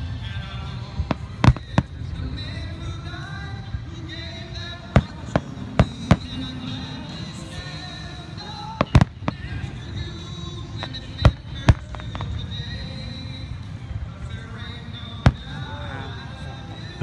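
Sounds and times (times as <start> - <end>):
music: 0.0 - 17.0
fireworks bursting bangs: 0.9 - 13.5, 14.3 - 17.0.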